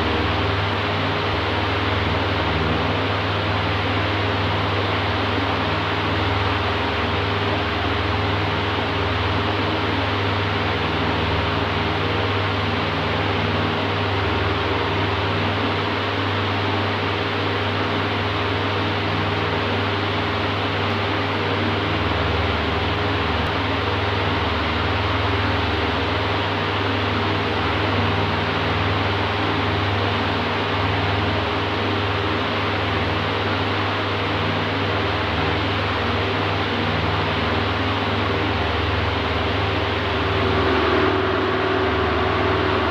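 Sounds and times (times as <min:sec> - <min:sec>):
electric fan running: 0:00.0 - 0:42.9.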